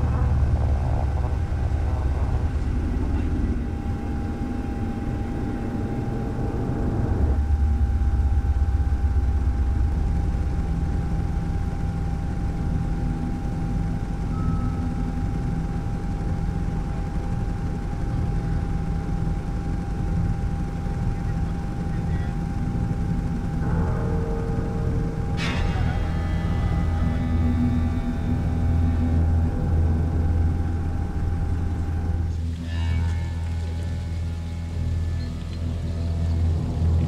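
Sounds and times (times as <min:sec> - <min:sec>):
faint steady tone: 0:00.0 - 0:36.8
aircraft engine and rotor drone: 0:00.0 - 0:37.0.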